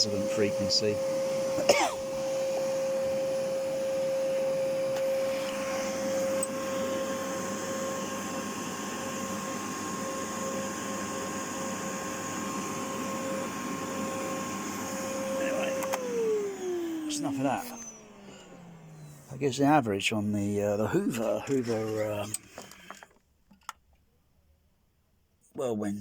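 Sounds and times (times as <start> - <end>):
vacuum cleaner running: 0.0 - 23.1.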